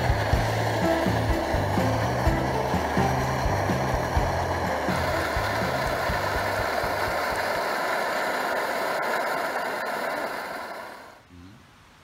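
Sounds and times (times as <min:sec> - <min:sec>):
pot boiling hard: 0:00.0 - 0:11.2.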